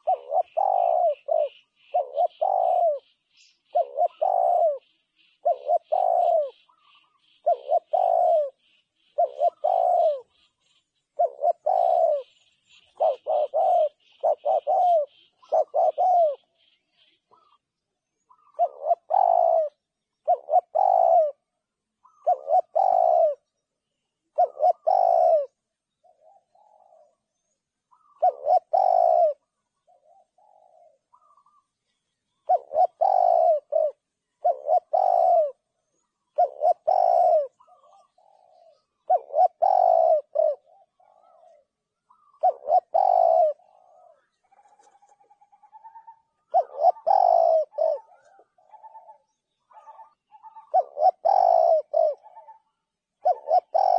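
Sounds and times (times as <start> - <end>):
bird trill: 0.0 - 53.9
dove cooing: 0.0 - 53.9.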